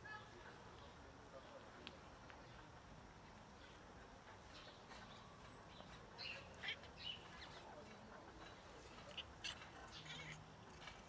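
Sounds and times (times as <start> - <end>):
faint birds chirping: 0.1 - 11.0.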